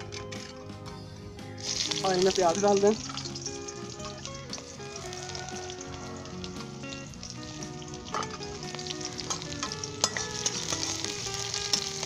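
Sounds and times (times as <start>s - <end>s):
background music: 0.0s - 12.0s
onion sizzling in hot oil: 1.6s - 12.0s.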